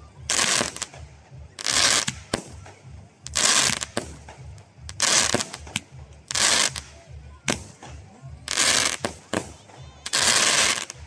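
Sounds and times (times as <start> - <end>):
fireworks bursts: 0.0 - 11.0.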